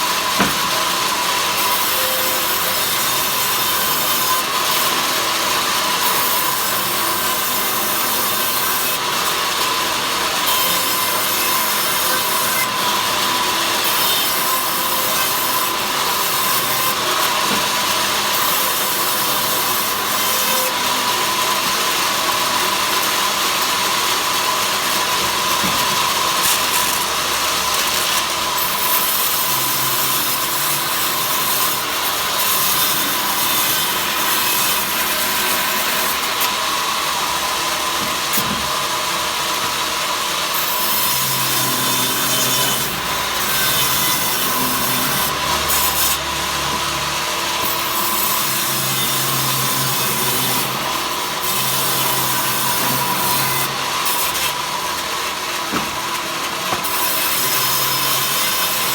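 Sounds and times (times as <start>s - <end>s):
power saw cutting wood: 0.0s - 58.9s.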